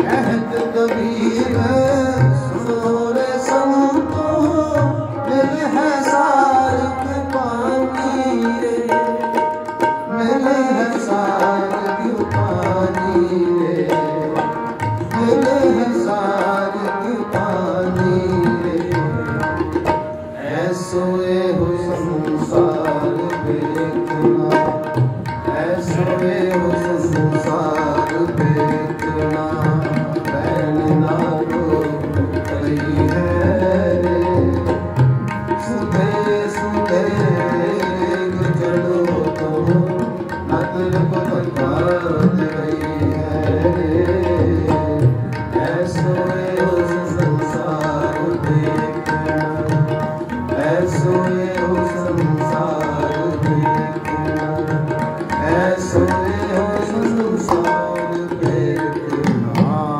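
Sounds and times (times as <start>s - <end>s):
harmonium chords: 0.0s - 59.9s
tabla strokes: 0.0s - 59.9s.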